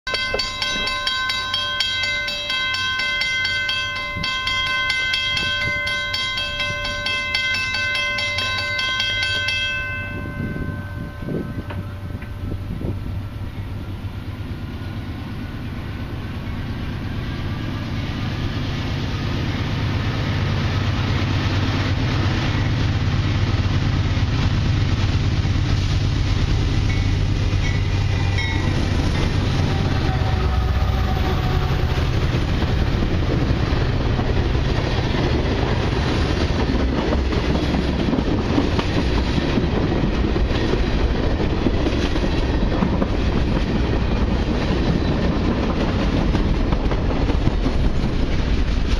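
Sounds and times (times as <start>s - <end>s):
diesel locomotive engine drone: 0.1s - 48.9s
freight cars rumbling on rails: 0.1s - 48.9s.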